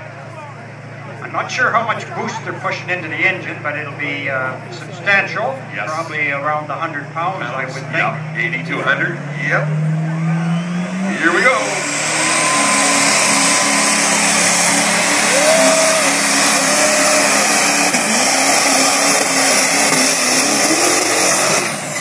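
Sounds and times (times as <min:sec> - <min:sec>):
diesel truck engine at full load: 0:00.0 - 0:22.0.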